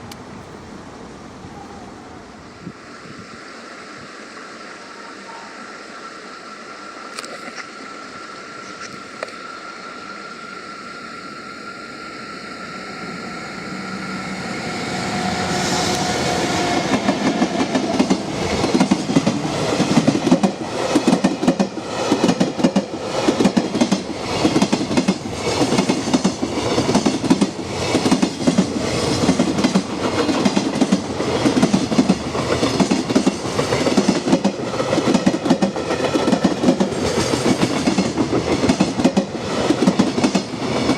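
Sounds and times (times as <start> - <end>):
electric locomotive passing: 0.0 - 40.9.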